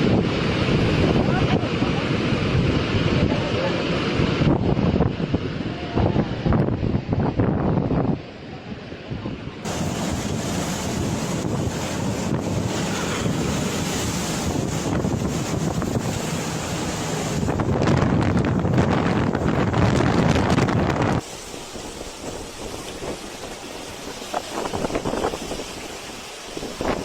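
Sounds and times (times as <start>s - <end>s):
storm wind on microphone: 0.0s - 27.0s.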